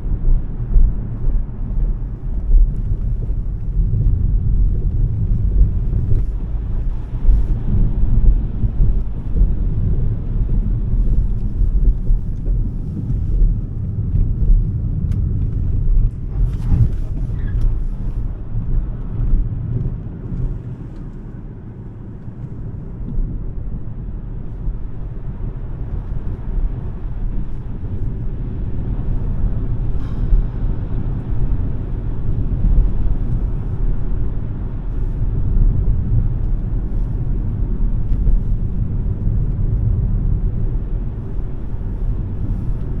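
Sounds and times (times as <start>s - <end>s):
electric car road and tyre rumble: 0.0s - 43.0s.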